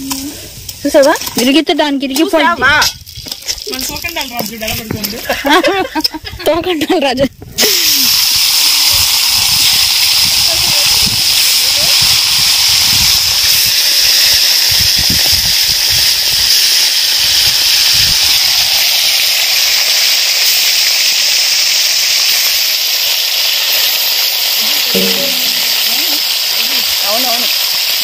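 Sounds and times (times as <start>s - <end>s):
fish frying in hot oil: 0.0s - 6.4s, 7.5s - 28.0s.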